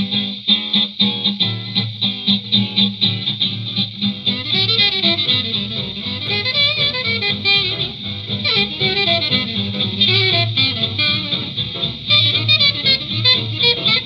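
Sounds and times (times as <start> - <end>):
small-band jazz record: 0.0 - 14.0
horns playing melody: 2.5 - 14.0.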